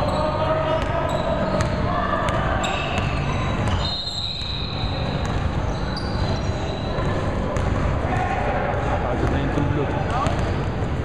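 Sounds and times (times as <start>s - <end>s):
sneaker squeaks: 0.0s - 8.2s, 10.0s - 11.0s.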